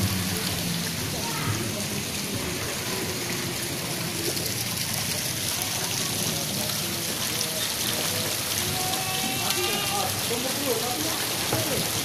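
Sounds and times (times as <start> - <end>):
faint distant voices: 0.2 - 12.0.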